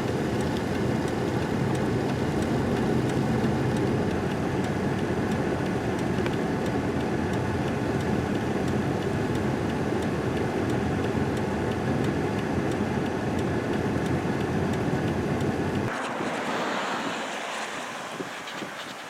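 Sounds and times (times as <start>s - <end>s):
wind noise: 0.0s - 19.0s.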